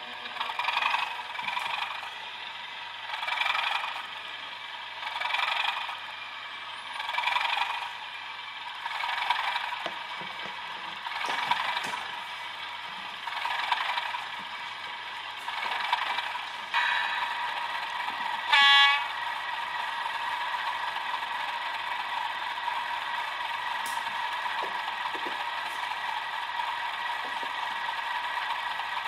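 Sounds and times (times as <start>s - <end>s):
tinny diesel idle from small speaker: 0.0s - 29.0s.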